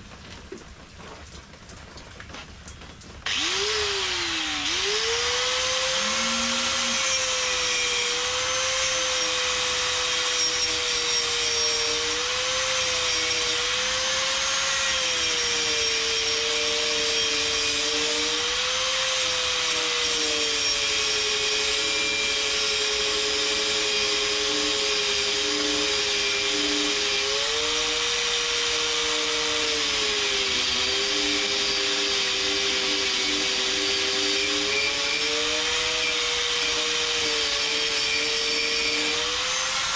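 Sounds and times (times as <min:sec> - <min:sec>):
small motor tool whining: 0:03.2 - 0:39.9.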